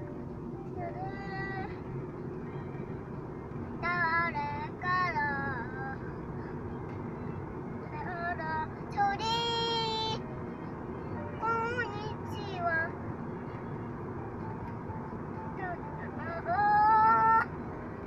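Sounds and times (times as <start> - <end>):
car road noise rumble: 0.0 - 18.0.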